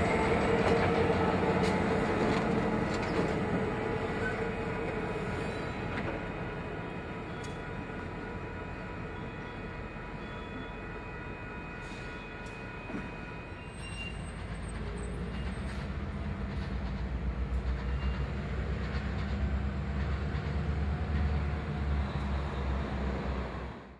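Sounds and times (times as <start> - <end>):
diesel locomotive engine rumbling: 0.0 - 23.9.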